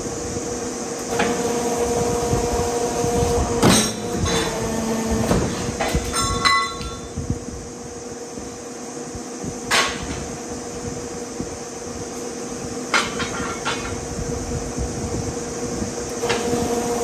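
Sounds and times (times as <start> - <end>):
metalworking press humming: 0.0 - 17.0.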